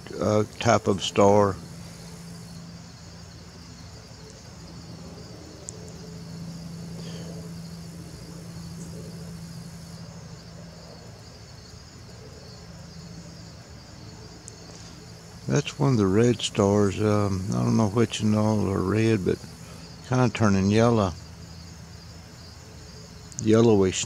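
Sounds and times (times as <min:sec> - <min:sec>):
crickets chirping: 0:00.0 - 0:24.0
low steady hum: 0:00.0 - 0:24.0.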